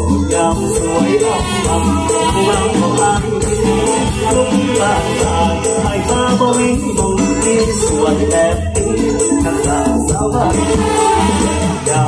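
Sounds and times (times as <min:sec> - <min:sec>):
band playing over loudspeakers: 0:00.0 - 0:12.0
high percussion strokes: 0:00.0 - 0:12.0.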